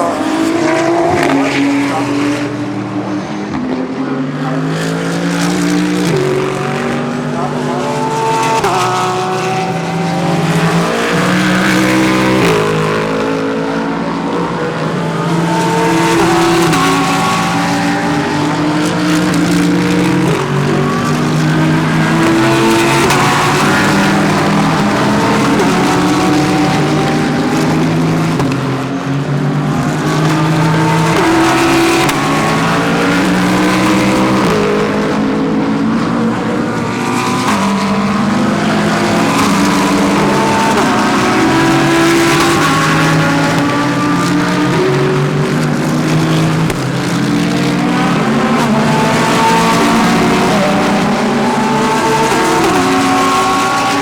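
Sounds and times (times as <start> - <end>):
race cars changing gear: 0.0 - 3.8, 4.6 - 54.0.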